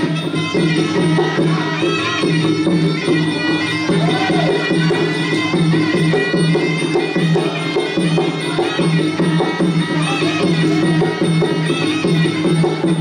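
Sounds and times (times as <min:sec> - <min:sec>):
hand drums steady beat: 0:00.0 - 0:13.0
reedy oboe melody: 0:00.0 - 0:13.0.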